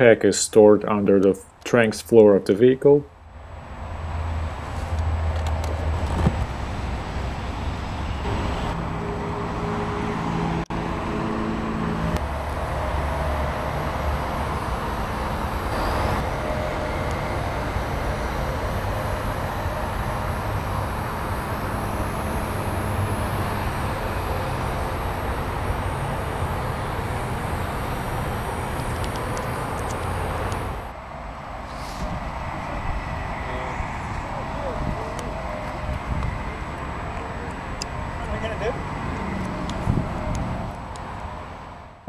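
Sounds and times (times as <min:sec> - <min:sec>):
road traffic rumble: 0:00.0 - 0:42.0
passing vehicle hum: 0:03.1 - 0:42.0.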